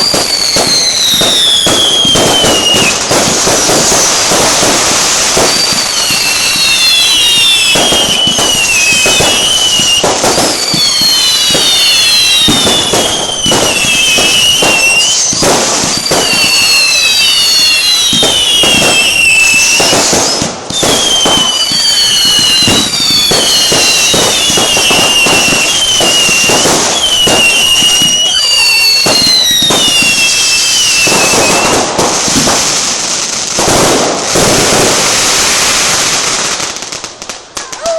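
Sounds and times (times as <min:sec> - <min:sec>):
falling firework whistles: 0:00.0 - 0:37.9
firework bangs and crackle: 0:00.0 - 0:37.9.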